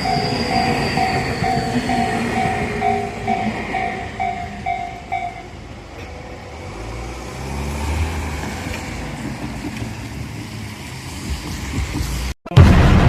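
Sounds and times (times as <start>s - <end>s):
train rumbling past: 0.0s - 12.4s.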